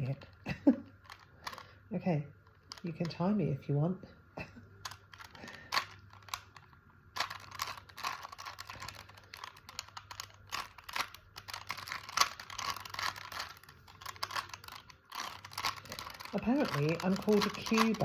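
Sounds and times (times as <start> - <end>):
plastic puzzle cube clicking: 1.0 - 1.8, 2.4 - 3.2, 4.8 - 18.0.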